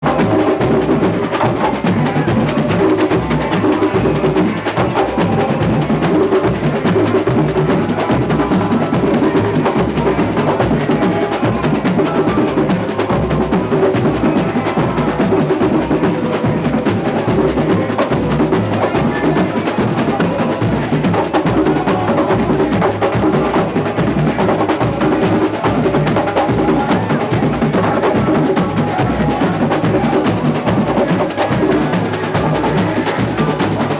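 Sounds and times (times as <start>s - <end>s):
booming bass drums: 0.0s - 33.9s
samba drum band playing: 0.0s - 33.9s
snare drums: 0.0s - 33.9s.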